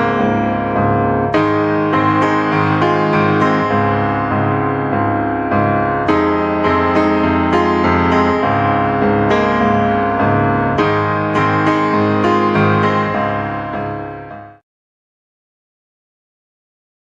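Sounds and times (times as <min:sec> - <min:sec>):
instrumental piano music: 0:00.0 - 0:14.6.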